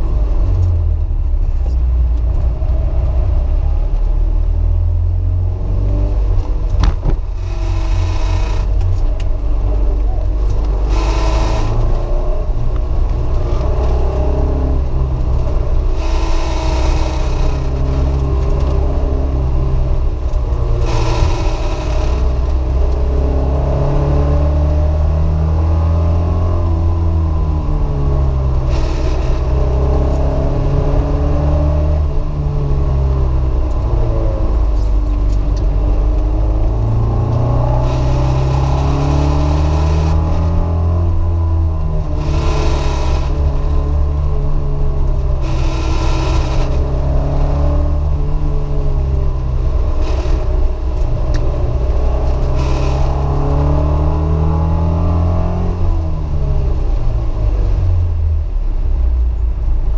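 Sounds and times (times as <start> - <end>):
car engine revving: 0.0 - 58.8.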